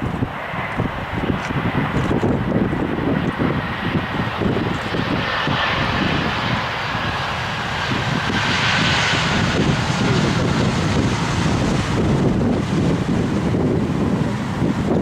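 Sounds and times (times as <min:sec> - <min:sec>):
airliner engines passing: 0:00.0 - 0:15.0
wind buffeting microphone: 0:00.0 - 0:15.0.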